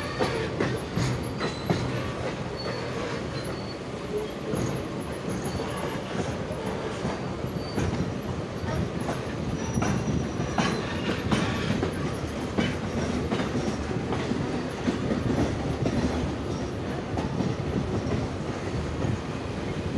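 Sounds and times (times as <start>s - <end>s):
clacks over rail joints: 0.0s - 19.8s
train wheels rumbling on rails: 0.0s - 19.9s.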